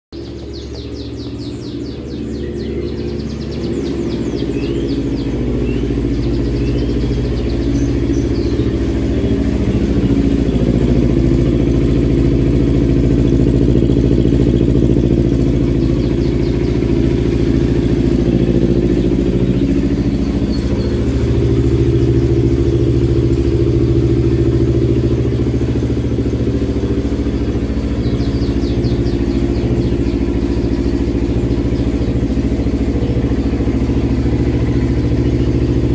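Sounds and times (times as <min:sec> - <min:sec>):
motorcycle engine running at low revs: 0:00.1 - 0:35.9.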